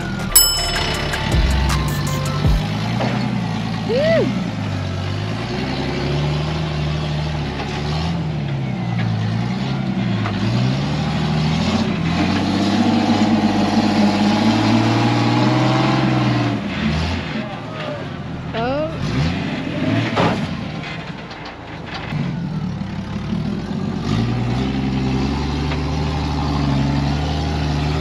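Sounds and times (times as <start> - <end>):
buggy engine revving: 1.2 - 28.0.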